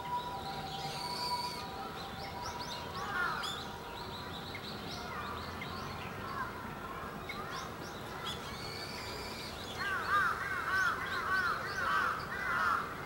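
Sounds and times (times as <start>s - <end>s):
birds chirping: 0.0s - 12.9s.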